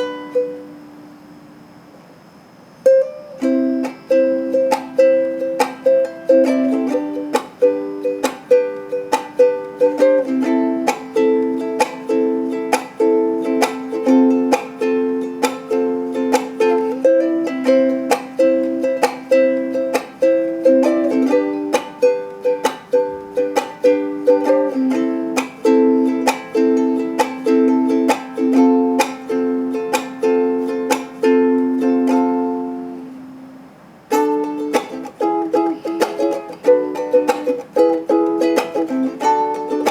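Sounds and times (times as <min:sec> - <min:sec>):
ukulele strumming chords: 0:00.0 - 0:39.9.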